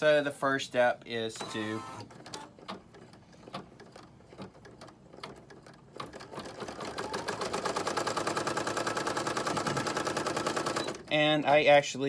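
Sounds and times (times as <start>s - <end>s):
embroidery machine stitching: 1.3s - 11.4s.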